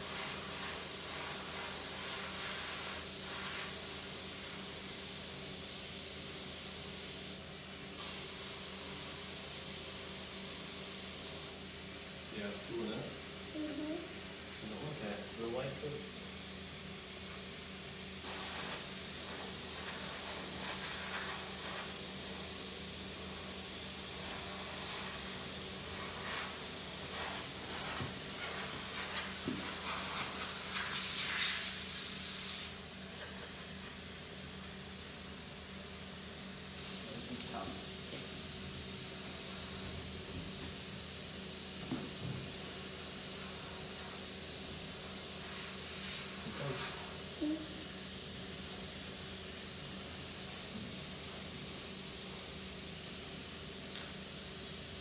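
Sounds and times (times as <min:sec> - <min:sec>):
airbrush hissing: 0:00.0 - 0:07.4, 0:08.0 - 0:11.6, 0:18.2 - 0:32.8, 0:33.4 - 0:55.0.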